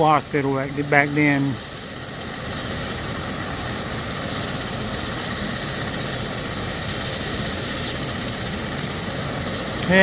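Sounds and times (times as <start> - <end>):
helicopter idling: 0.0 - 10.0.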